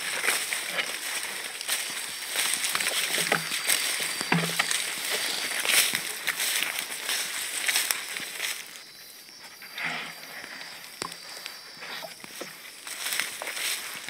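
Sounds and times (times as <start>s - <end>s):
footsteps through undergrowth: 0.0s - 9.4s, 10.1s - 14.0s
twigs crackling underfoot: 0.0s - 9.4s, 10.4s - 14.0s
leaves rustling: 0.0s - 14.0s.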